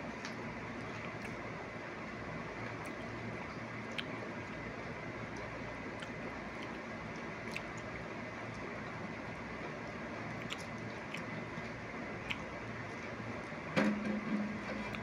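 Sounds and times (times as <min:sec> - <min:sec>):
steady background hiss: 0:00.0 - 0:15.0
people chewing banana: 0:00.1 - 0:01.5, 0:02.6 - 0:13.7, 0:14.3 - 0:15.0.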